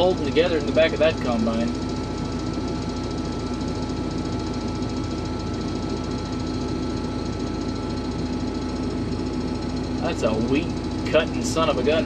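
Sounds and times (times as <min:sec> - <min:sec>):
combine harvester engine hum: 0:00.0 - 0:12.0
high machinery whine: 0:00.0 - 0:12.0.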